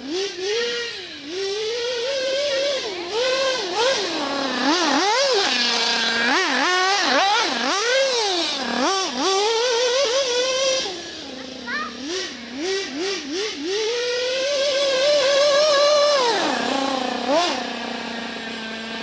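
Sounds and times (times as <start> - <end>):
nitro engine revving: 0.0 - 19.0.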